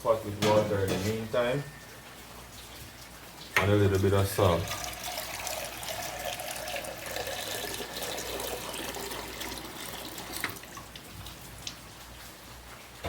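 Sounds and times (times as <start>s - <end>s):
water running from a tap: 0.5s - 13.0s.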